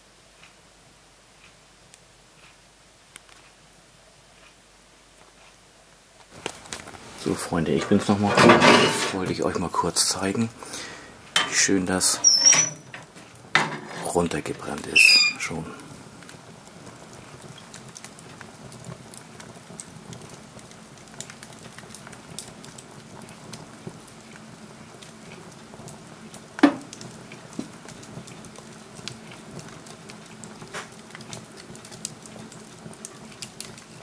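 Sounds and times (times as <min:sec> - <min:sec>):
wood fire crackling in stove: 0:00.0 - 0:34.0
fire popping: 0:06.2 - 0:34.0.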